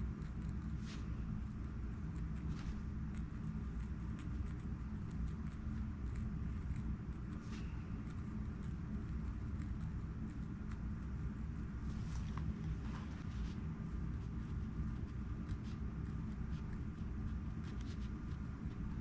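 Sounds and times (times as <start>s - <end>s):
low background rumble: 0.0s - 19.0s
pen strokes on paper: 0.1s - 10.8s, 11.4s - 19.0s.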